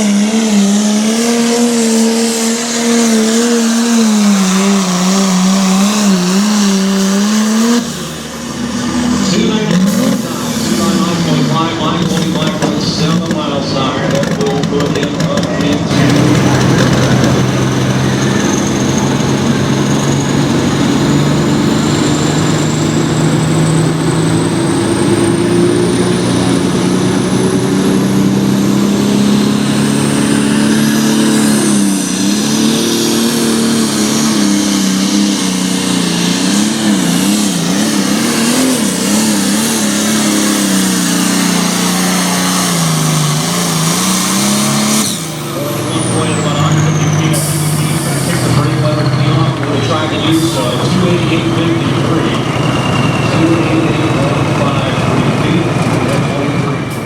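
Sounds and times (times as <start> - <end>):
diesel engine running hard: 0.0 - 57.0
high turbo whine: 0.0 - 57.0.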